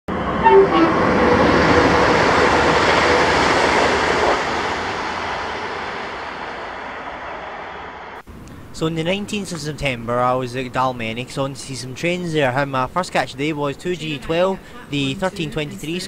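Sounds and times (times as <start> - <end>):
passenger train passing: 0.1 - 16.0.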